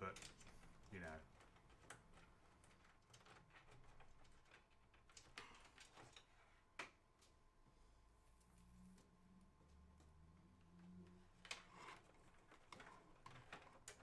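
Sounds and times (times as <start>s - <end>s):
cables clicking and rustling: 0.0s - 7.5s, 8.3s - 14.0s.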